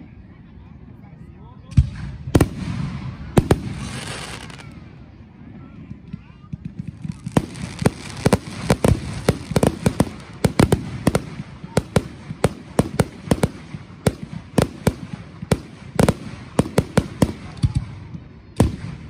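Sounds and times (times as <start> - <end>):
fireworks bursting with sharp bangs: 1.7 - 5.2, 5.8 - 19.0.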